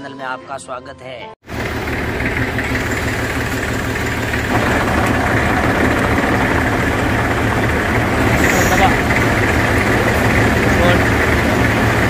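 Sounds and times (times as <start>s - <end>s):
tractor diesel engine idling: 1.5s - 12.0s.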